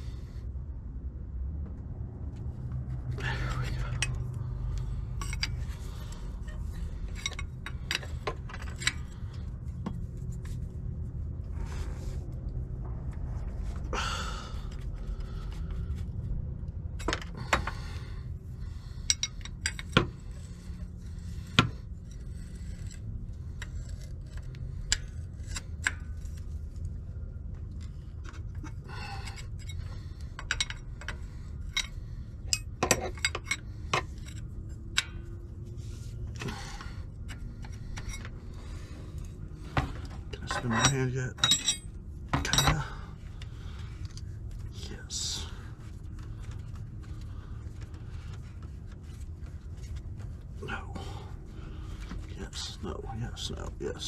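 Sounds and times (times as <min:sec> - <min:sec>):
steady low rumble: 0:00.0 - 0:54.0
wrenches clinking and scraping: 0:03.1 - 0:11.5, 0:16.8 - 0:54.0.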